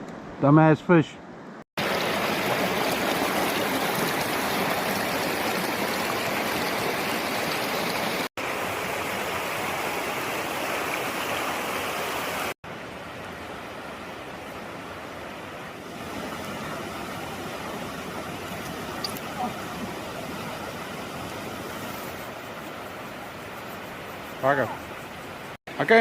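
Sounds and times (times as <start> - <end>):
rushing river water: 1.8 - 26.0.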